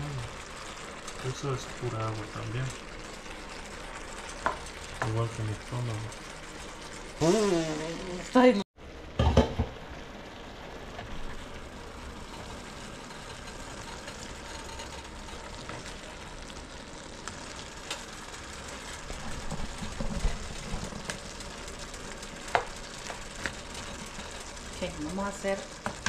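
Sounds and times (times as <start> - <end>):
soup simmering: 0.0 - 26.0.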